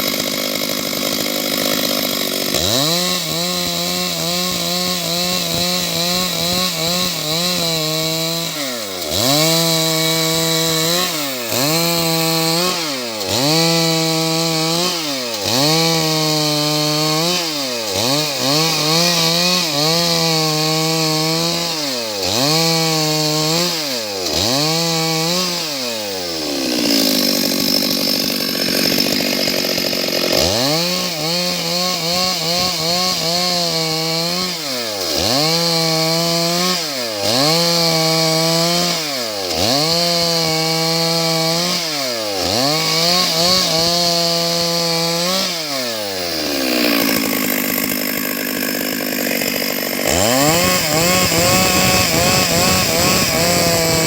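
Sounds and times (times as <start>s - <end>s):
chainsaw sawing wood: 0.0s - 54.0s.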